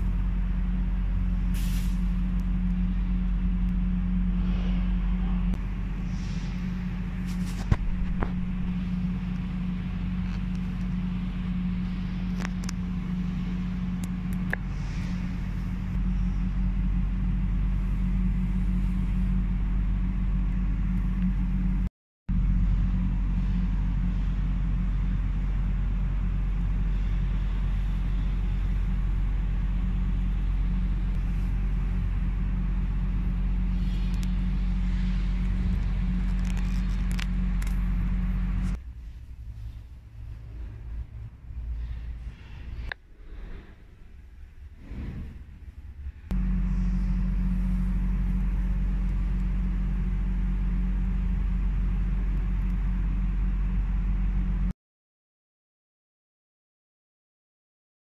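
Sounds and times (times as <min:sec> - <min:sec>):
low machine drone: 0:00.0 - 0:54.7.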